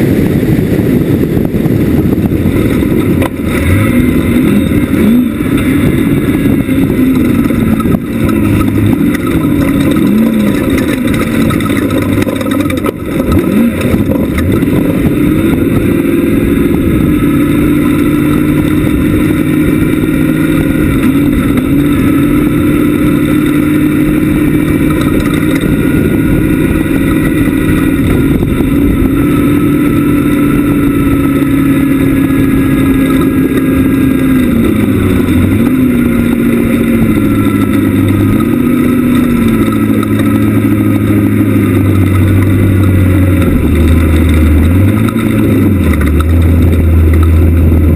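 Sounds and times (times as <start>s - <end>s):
race buggy engine revving: 0.0s - 47.9s.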